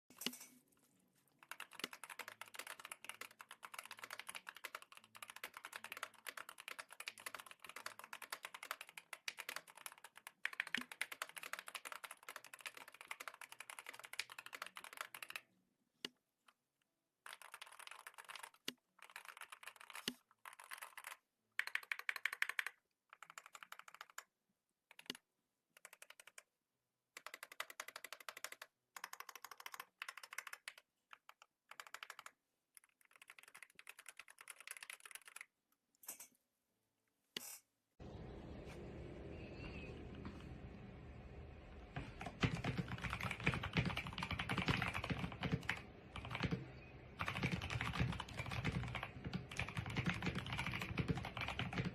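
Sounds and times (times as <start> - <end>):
keyboard typing: 1.3 - 16.6, 17.2 - 26.5, 27.1 - 36.3, 37.4 - 51.9.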